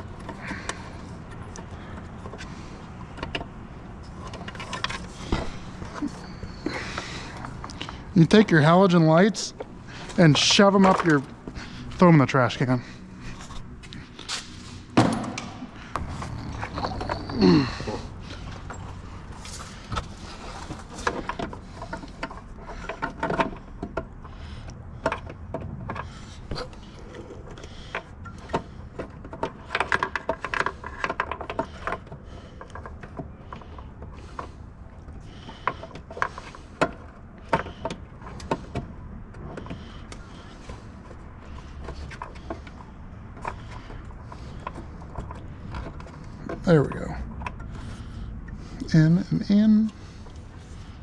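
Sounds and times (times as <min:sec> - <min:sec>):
tools clicking on car parts: 0:00.0 - 0:08.8, 0:09.6 - 0:48.6.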